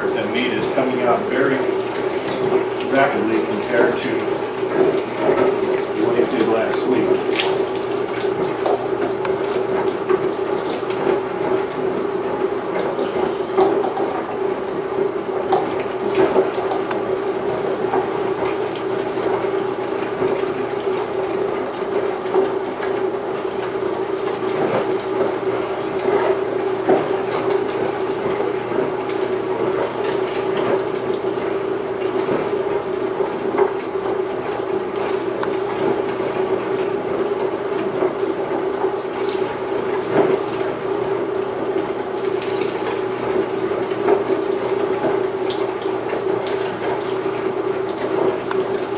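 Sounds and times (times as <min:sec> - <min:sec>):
meat grinder humming: 0:00.0 - 0:48.9.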